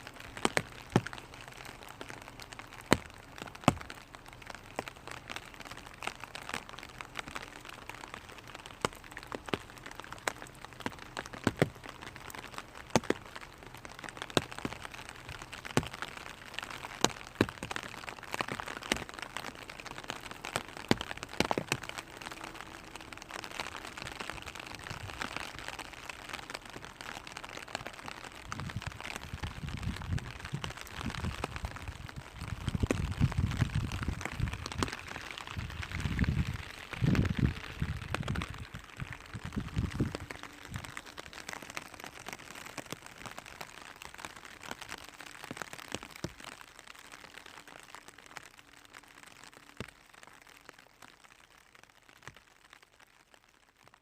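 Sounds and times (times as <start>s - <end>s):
raindrops tapping on umbrella: 0.0s - 54.0s
steady rain patter: 0.0s - 54.0s.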